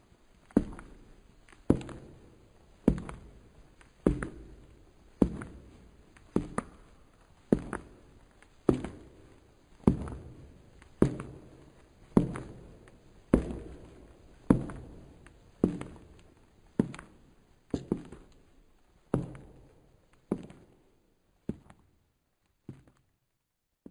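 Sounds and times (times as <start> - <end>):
echoing hard-soled footsteps: 0.0 - 23.9.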